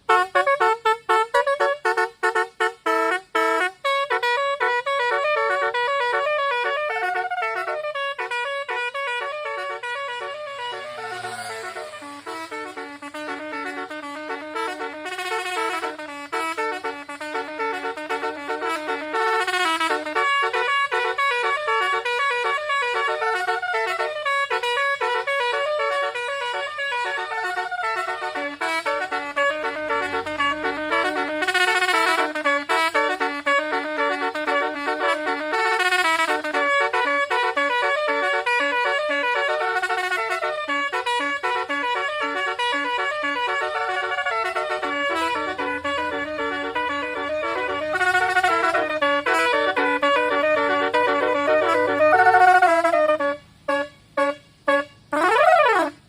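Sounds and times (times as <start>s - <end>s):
musical car horn playing a tune: 0.0s - 56.0s.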